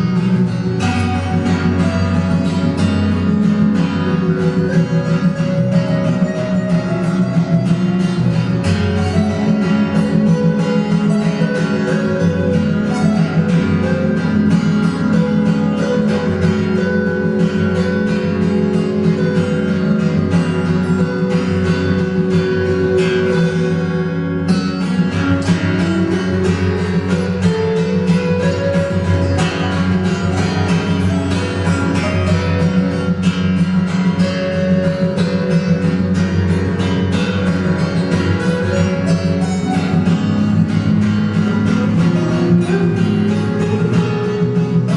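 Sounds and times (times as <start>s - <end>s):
acoustic guitars playing: 0.0s - 44.9s.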